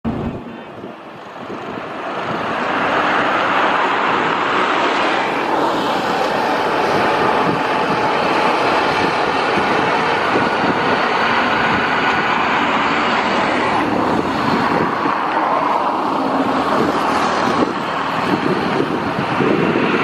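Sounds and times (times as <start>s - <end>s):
turboprop engines and propellers: 0.1s - 20.0s.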